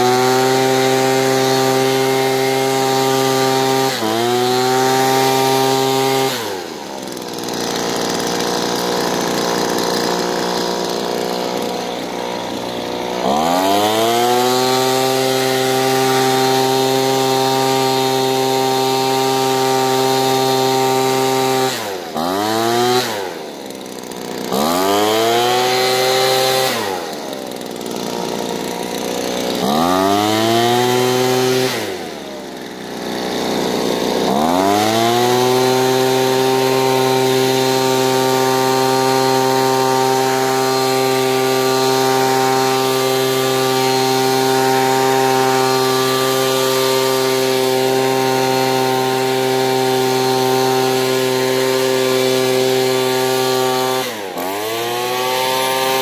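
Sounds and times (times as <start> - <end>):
leaf blower whining: 0.0 - 56.0.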